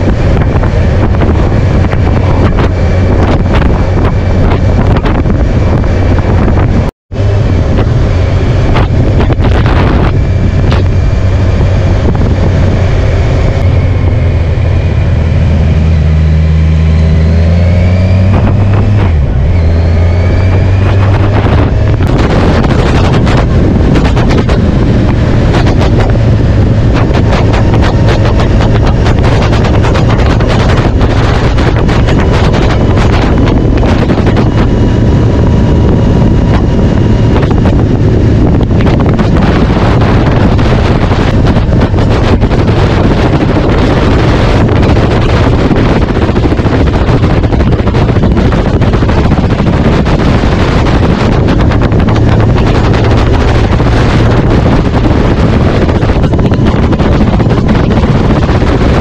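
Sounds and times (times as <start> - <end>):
vehicle engine running: 0.0 - 59.0
wind noise on microphone: 0.0 - 59.0.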